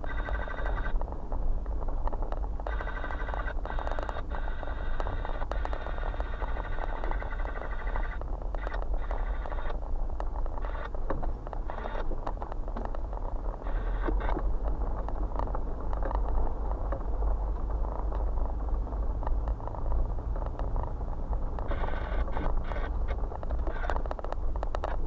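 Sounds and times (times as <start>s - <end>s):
tyres crackling on loose stones: 0.0s - 25.0s
vehicle rumbling on gravel: 0.0s - 25.0s.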